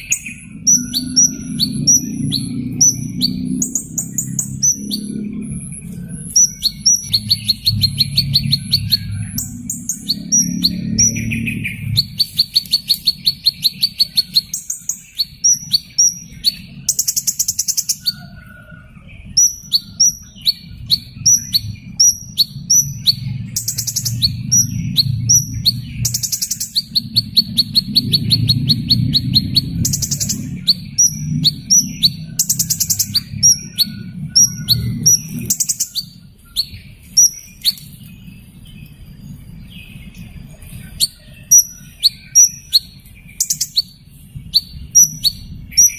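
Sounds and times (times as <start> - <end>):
low background rumble: 0.0 - 45.9
small bird chirping and trilling: 0.0 - 45.9.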